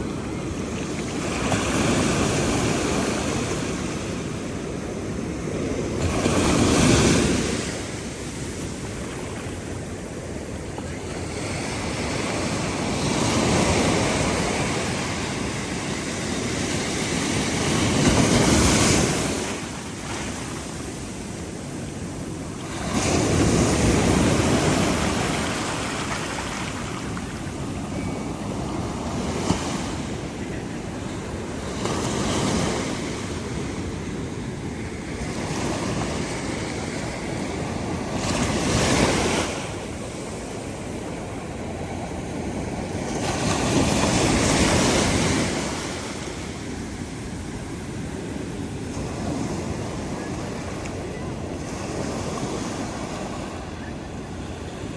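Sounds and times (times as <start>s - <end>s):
ocean surf breaking on beach: 0.0s - 54.9s.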